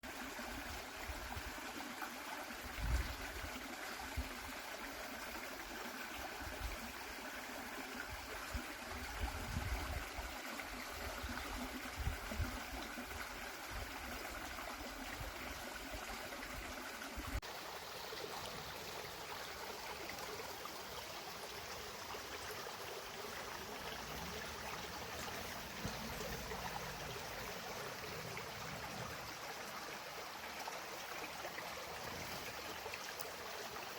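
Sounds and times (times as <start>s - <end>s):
stream water flowing: 0.0s - 33.9s.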